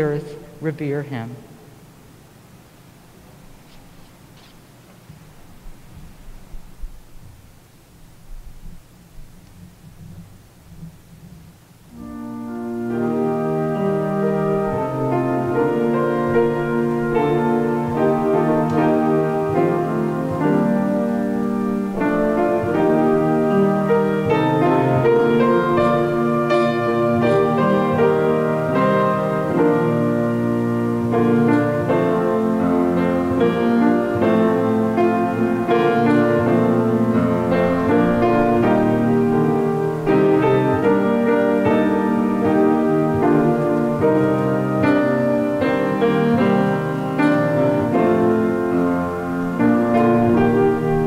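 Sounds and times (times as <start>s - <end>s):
piano piece: 0.0s - 51.0s.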